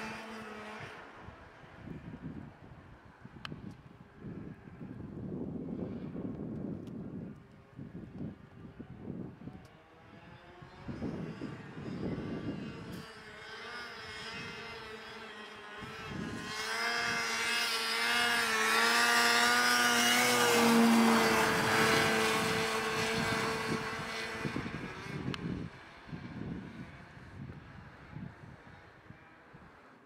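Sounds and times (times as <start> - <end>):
snowmobile engine under throttle: 0.0 - 30.0.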